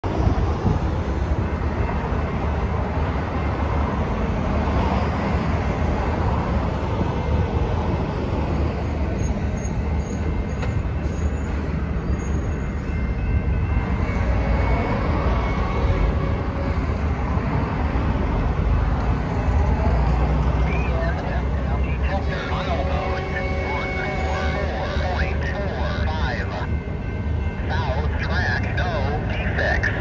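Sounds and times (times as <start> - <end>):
low rumble of trains: 0.0 - 30.0.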